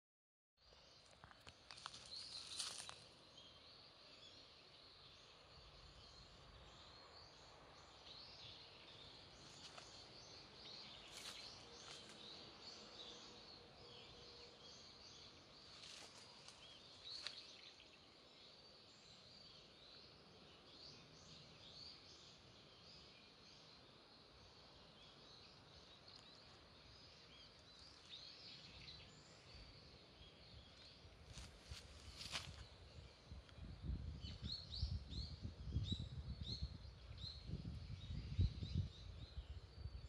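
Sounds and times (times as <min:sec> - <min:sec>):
small birds chirping: 0:00.6 - 0:40.0.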